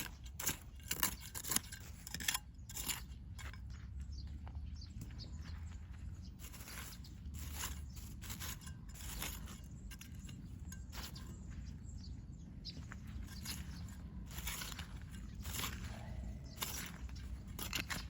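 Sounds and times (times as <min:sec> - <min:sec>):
scraping and rustling in soil: 0:00.0 - 0:04.3, 0:05.0 - 0:18.0.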